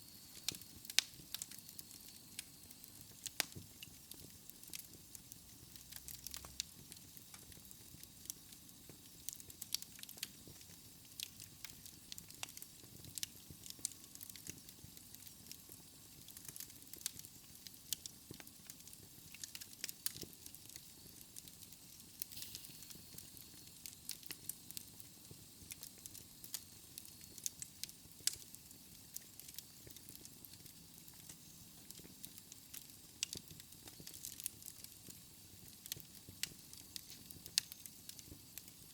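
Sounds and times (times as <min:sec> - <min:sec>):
faint steady hiss: 0:00.0 - 0:38.9
logs crackling and popping: 0:00.2 - 0:38.9.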